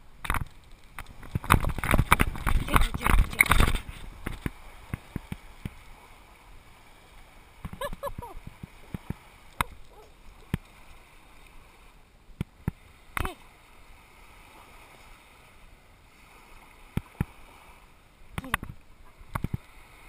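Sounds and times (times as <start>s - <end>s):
waves lapping on shore: 0.0s - 20.0s.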